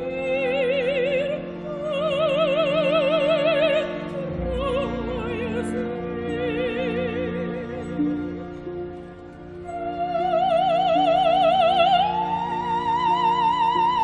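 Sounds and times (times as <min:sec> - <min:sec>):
operatic soprano singing: 0:00.0 - 0:08.7, 0:09.5 - 0:14.0
soft orchestra: 0:00.0 - 0:14.0.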